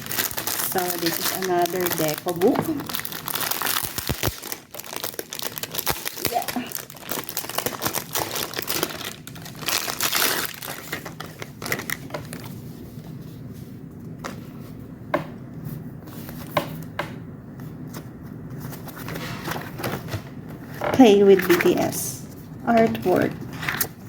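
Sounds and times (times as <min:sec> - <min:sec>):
packaging crinkling and rustling: 0:00.0 - 0:14.6, 0:17.7 - 0:24.0.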